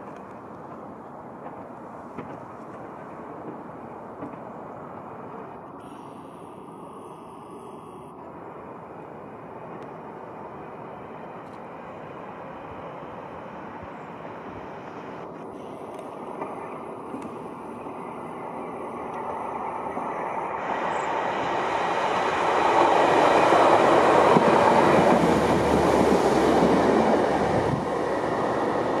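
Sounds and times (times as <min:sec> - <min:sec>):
train wheels on rails: 0:00.0 - 0:06.7, 0:08.2 - 0:29.0
diesel train engine passing: 0:00.0 - 0:29.0.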